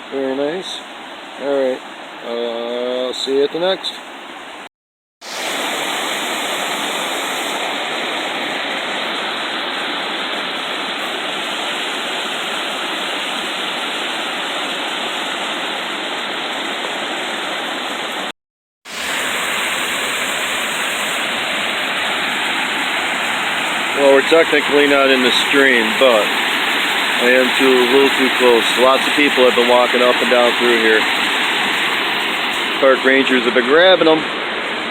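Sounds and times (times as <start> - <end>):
waterfall rushing over rock: 5.2 - 18.3, 18.9 - 34.9.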